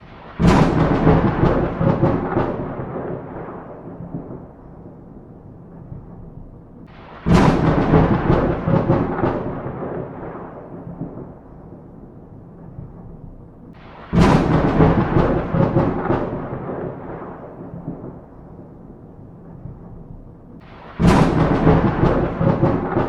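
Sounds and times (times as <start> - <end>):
thunder cracking: 0.0 - 23.0
thunder rumbling: 0.0 - 23.0
thunderclaps: 0.0 - 23.0.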